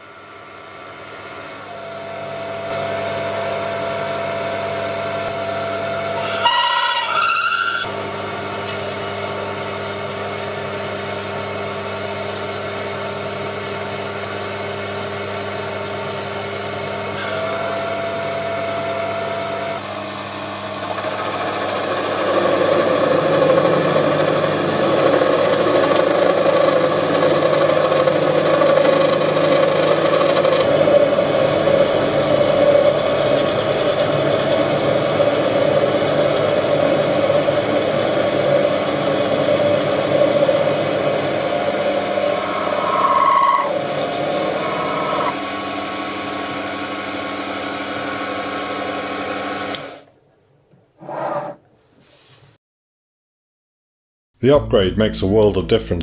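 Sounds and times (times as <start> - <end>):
mini lathe motor whine: 2.6 - 50.0.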